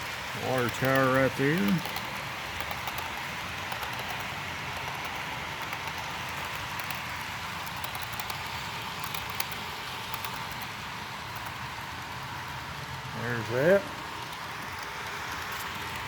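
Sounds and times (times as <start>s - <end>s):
model train hissing: 0.0s - 16.0s
wheels clicking over rail joints: 0.0s - 16.0s.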